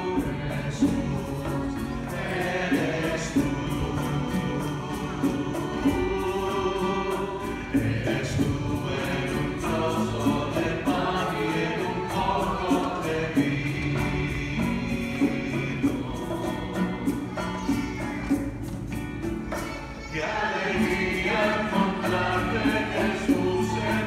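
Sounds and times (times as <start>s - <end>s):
group singing worship song: 0.0s - 24.0s
strummed guitar: 0.0s - 24.0s.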